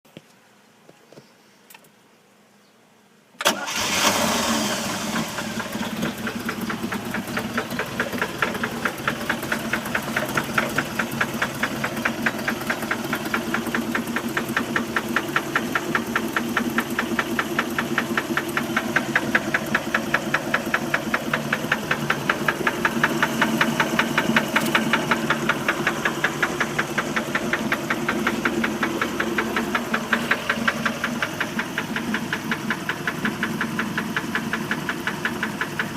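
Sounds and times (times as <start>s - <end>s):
boat engine starting and knocking: 3.4s - 35.9s.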